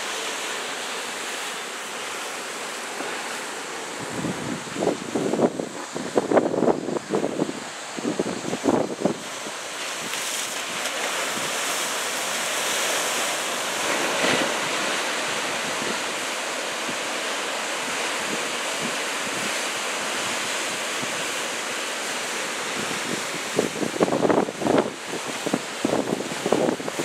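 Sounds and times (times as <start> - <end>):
surf washing over rocky shore: 0.0 - 27.0.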